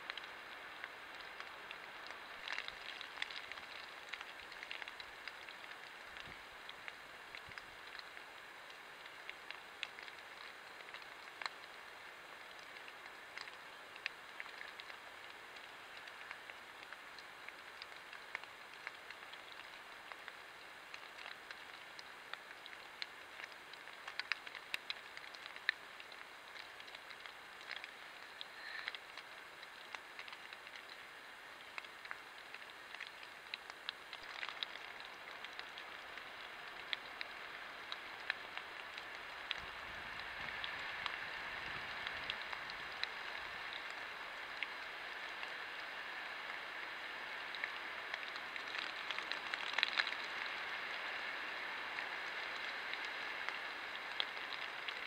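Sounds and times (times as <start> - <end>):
light rain pattering on leaves: 0.0 - 55.0
rain drop ticks: 0.0 - 55.0.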